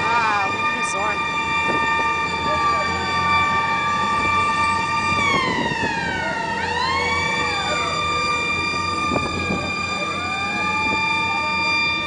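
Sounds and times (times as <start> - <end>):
vehicle siren: 0.0 - 12.0.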